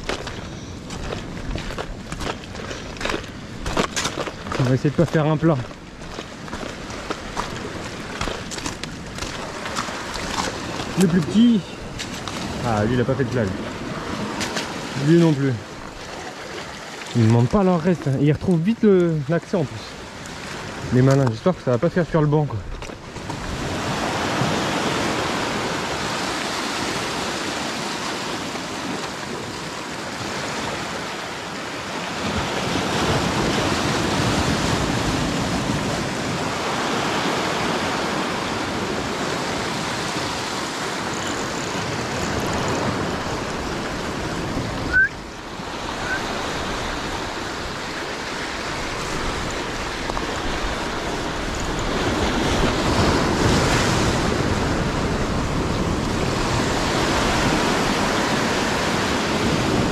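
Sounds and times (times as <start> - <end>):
waves breaking on rocky shore: 0.0 - 59.9.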